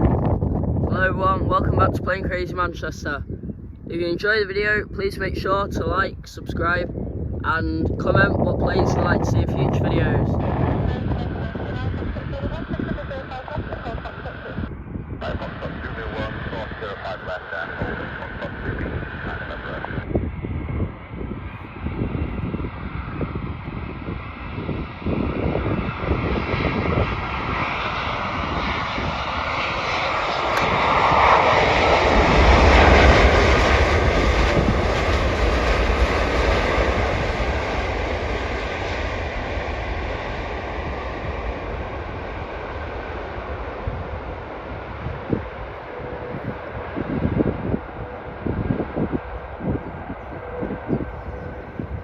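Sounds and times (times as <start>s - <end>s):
jet airliner passing: 0.0s - 52.0s.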